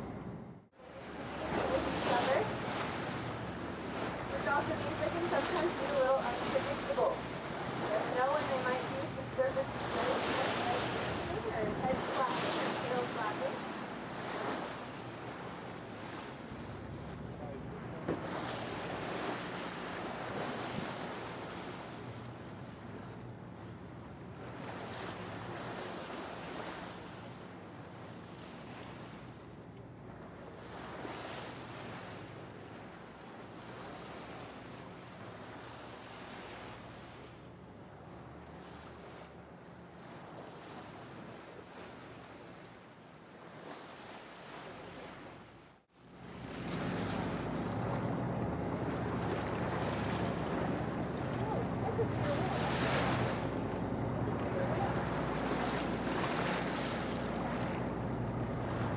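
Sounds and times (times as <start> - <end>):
low engine hum: 0.0 - 41.5, 46.0 - 58.9
choppy sea washing against boat: 0.0 - 58.9.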